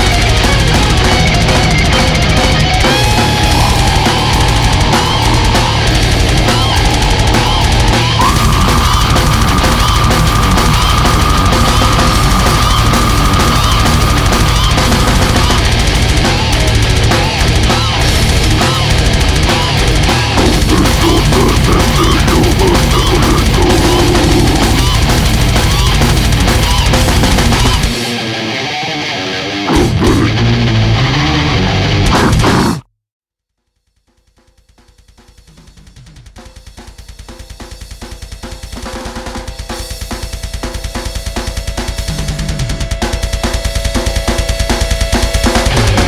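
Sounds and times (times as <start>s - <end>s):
heavy metal music: 0.0s - 32.8s, 38.8s - 46.0s.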